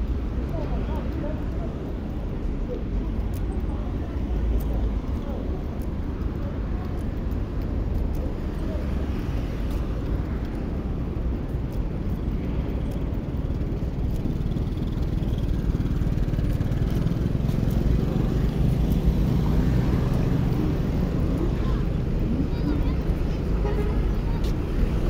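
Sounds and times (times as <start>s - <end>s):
city street traffic rumble: 0.0s - 25.0s.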